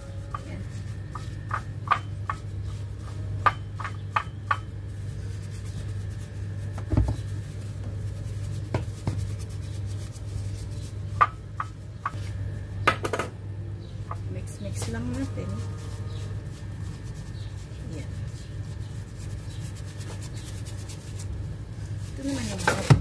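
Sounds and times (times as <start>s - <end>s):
gloved hand rubbing spice powder: 0.0s - 12.6s, 13.8s - 23.0s
steady low hum: 0.0s - 23.0s.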